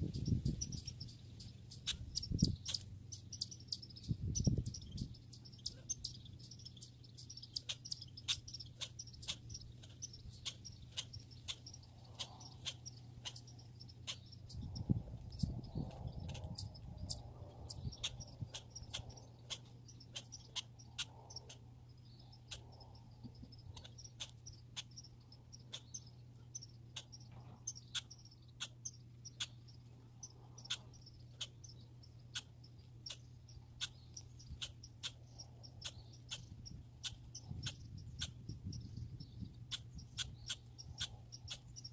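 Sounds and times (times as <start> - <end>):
low steady hum: 0.0 - 41.9
squirrel clicking: 0.0 - 41.9.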